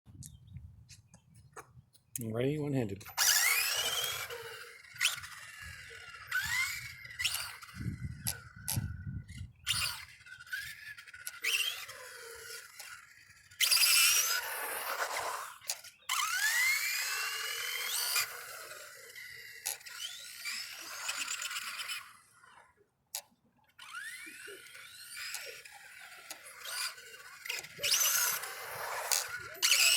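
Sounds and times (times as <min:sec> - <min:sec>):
toy car electric motor whining: 0:03.0 - 0:29.9.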